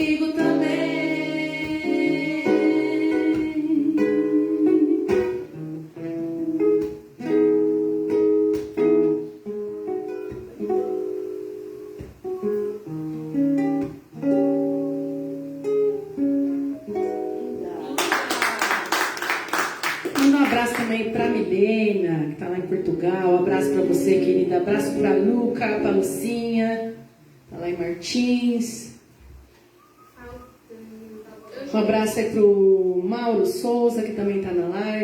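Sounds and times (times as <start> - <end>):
acoustic guitar playing: 0.0 - 28.2, 28.9 - 32.4.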